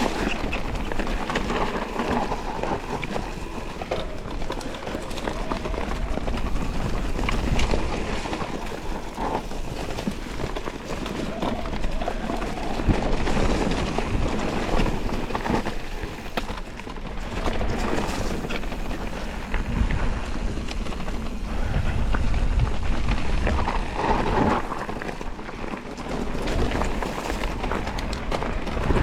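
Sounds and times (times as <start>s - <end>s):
tyres rolling on dirt: 0.0s - 29.0s
wind buffeting microphone: 0.0s - 29.0s.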